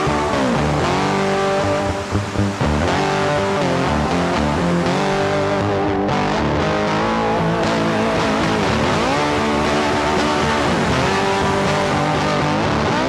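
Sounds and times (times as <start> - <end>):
electric guitar music: 0.0 - 13.0.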